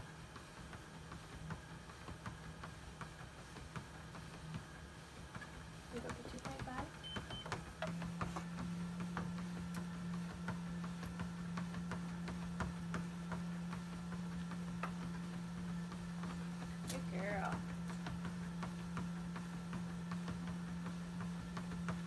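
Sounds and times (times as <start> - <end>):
treadmill motor humming: 0.0 - 22.0.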